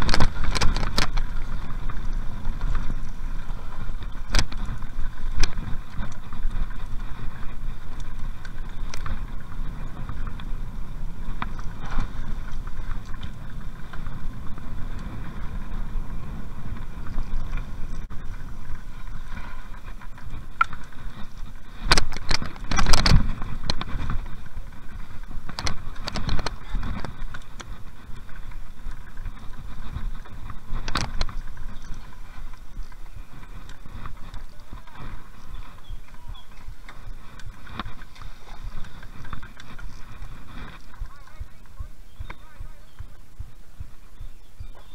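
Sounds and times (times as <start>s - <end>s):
bike clicks and rattles: 0.0s - 44.9s
bike tyres rumbling on dirt: 0.0s - 44.9s.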